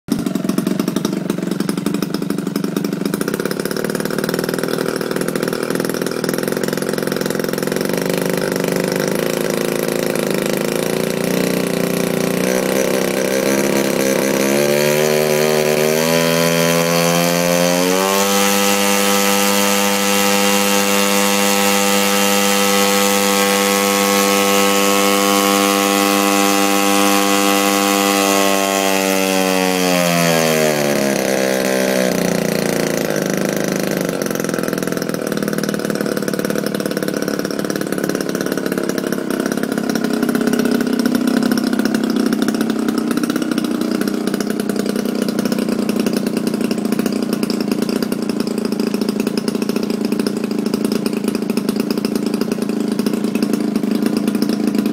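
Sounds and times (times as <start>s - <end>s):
model airplane engine running: 0.1s - 54.9s.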